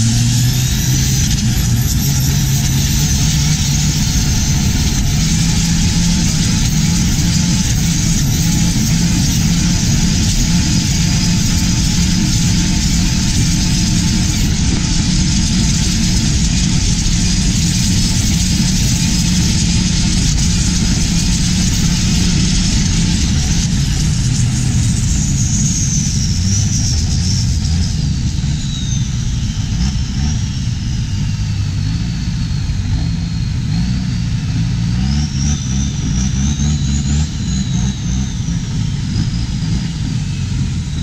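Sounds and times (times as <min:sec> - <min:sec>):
boat diesel engine revving: 0:00.0 - 0:41.0.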